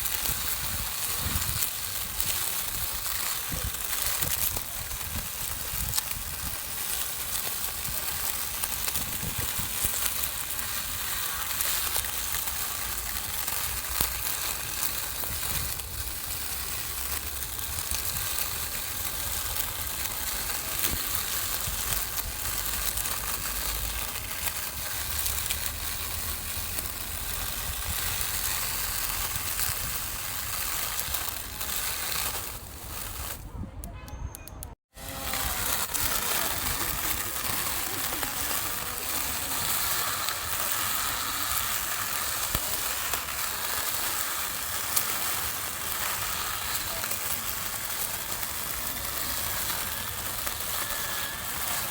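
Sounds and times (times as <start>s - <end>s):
lawn mower cutting grass: 0.0s - 33.4s, 34.9s - 51.9s.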